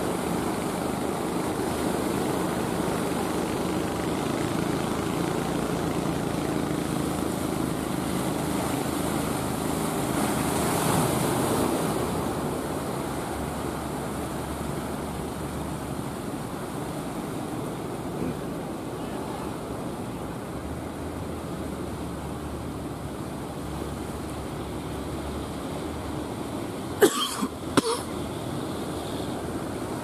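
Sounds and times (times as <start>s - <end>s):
boat engines running: 0.0s - 30.0s
waves washing: 0.0s - 30.0s.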